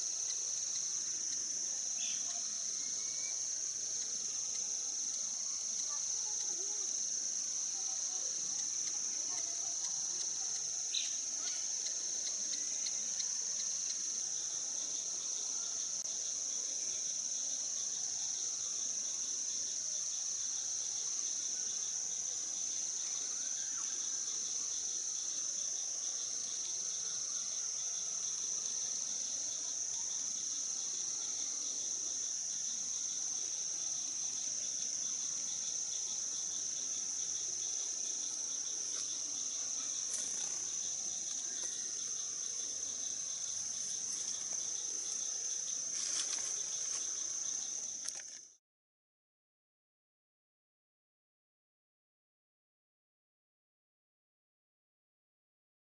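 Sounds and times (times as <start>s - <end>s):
insects droning: 0.0s - 48.6s
pulsing insect trill: 0.0s - 48.6s.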